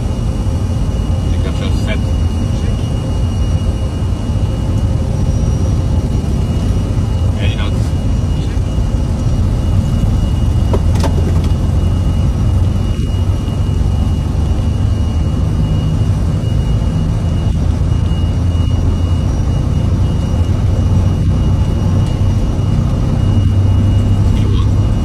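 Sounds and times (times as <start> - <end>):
jet engine whine: 0.0 - 25.0
jet engines rumbling: 0.0 - 25.0.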